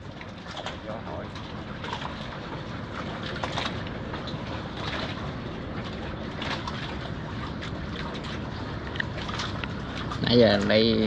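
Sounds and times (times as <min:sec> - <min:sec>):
small water splashes: 0:00.0 - 0:11.0
water lapping against wood: 0:00.0 - 0:11.0
wind: 0:00.0 - 0:11.0.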